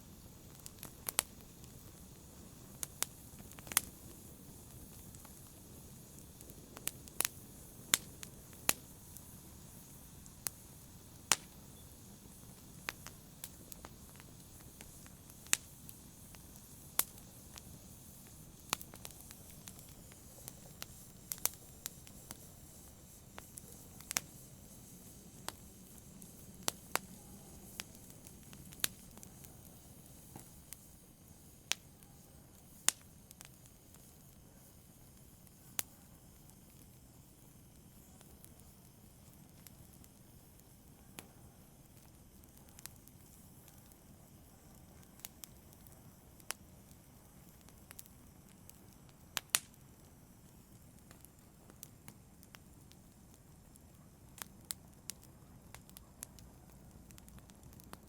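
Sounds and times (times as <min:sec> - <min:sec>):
hiss of burning: 0:00.0 - 0:58.0
wood fire crackling: 0:00.0 - 0:58.0.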